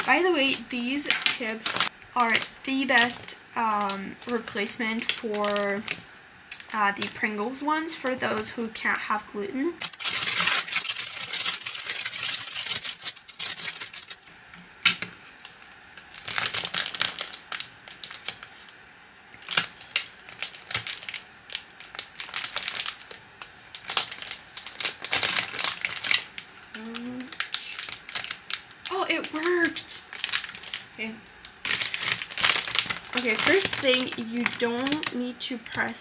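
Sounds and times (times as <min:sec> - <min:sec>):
foil bag crinkling: 0:00.0 - 0:07.4, 0:09.8 - 0:14.3, 0:15.3 - 0:18.8, 0:19.4 - 0:36.0.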